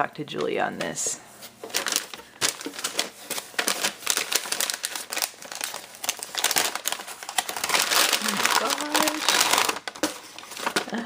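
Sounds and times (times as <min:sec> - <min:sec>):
gift wrapping crinkling: 0:00.3 - 0:11.0.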